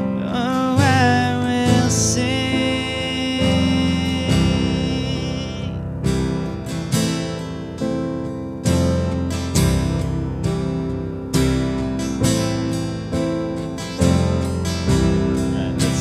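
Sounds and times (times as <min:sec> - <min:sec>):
acoustic guitar strumming chords: 0:00.0 - 0:16.0
sustained digital piano chords: 0:00.0 - 0:16.0.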